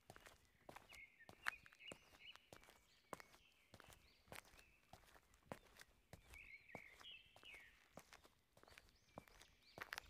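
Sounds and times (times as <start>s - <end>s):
soft footsteps: 0.0s - 10.0s.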